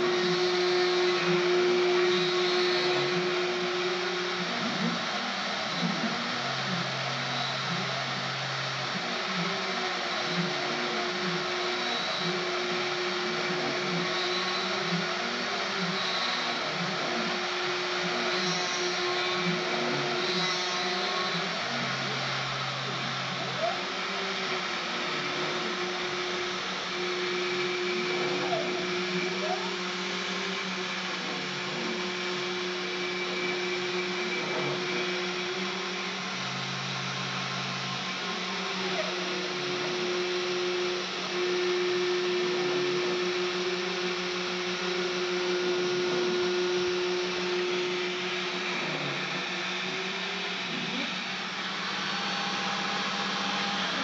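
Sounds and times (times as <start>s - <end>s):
cnc router spindle whine: 0.0s - 54.0s
endmill cutting aluminium: 0.0s - 54.0s.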